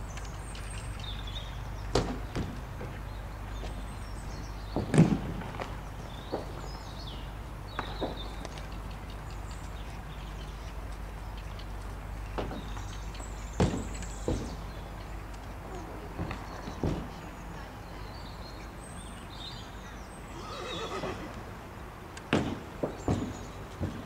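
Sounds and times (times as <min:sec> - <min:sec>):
horse hooves thudding on soft ground: 0:00.0 - 0:21.6, 0:22.2 - 0:24.0.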